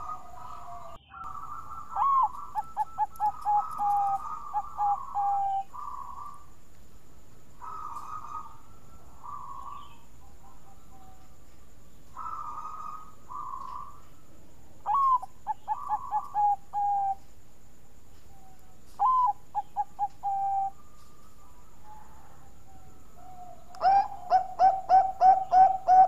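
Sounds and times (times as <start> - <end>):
dove cooing: 0.0 - 6.6, 7.6 - 11.4, 12.2 - 14.2, 14.8 - 17.3, 18.3 - 26.0.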